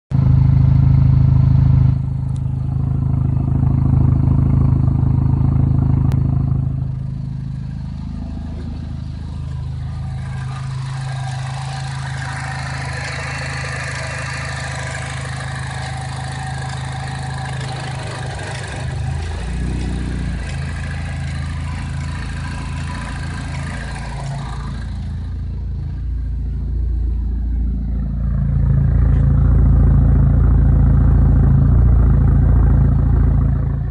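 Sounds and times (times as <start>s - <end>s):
car engine idling roughly: 0.1s - 33.9s.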